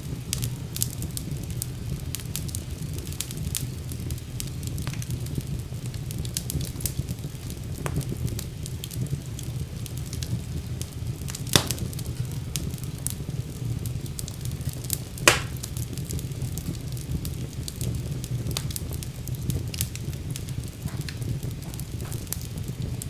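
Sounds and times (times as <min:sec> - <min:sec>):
loud fire pops: 0:00.0 - 0:23.0
wood fire crackling: 0:00.0 - 0:23.0.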